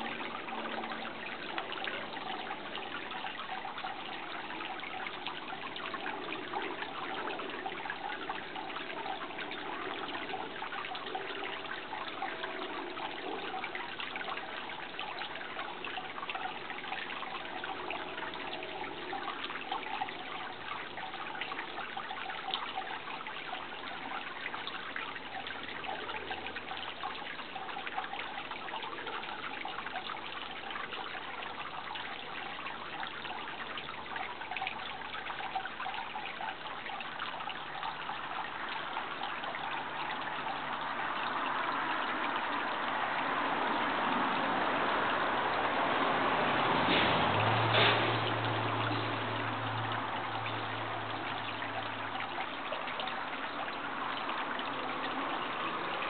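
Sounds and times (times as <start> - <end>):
water running and trickling: 0.0 - 56.0.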